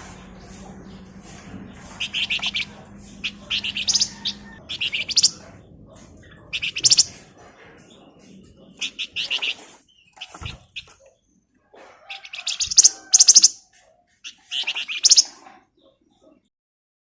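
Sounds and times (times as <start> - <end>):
bird chattering song: 0.0 - 16.5.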